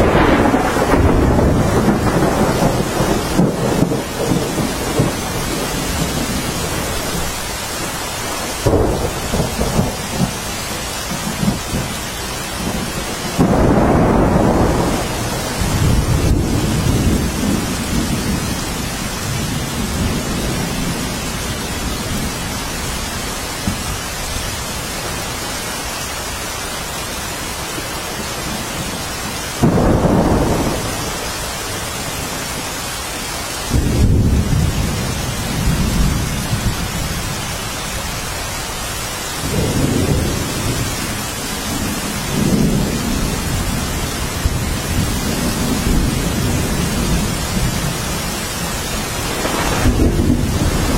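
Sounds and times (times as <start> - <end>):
thunder rolling: 0.0 - 25.5, 27.7 - 32.8, 33.6 - 38.3, 39.4 - 50.9
steady rain: 0.0 - 50.9.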